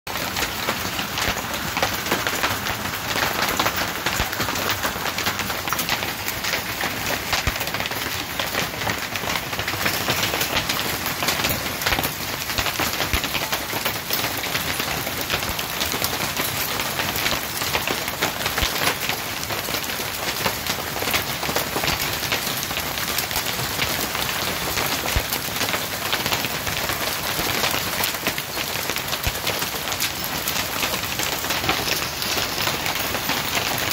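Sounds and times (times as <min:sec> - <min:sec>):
hailstones pelting down: 0:00.1 - 0:33.9.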